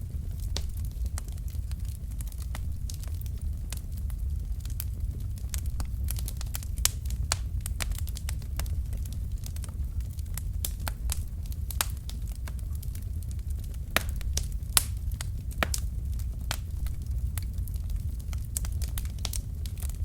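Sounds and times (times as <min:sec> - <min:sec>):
logs crackling and popping: 0:00.0 - 0:20.0
low rumble of fire: 0:00.0 - 0:20.0.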